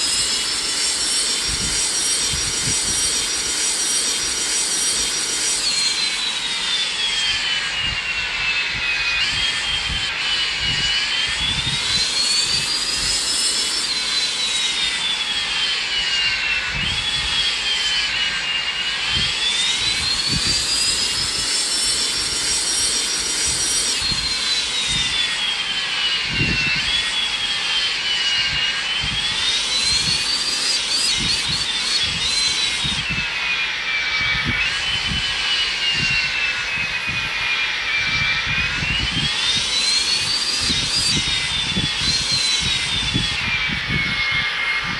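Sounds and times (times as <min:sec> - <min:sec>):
jet engine whine: 0:00.0 - 0:44.9.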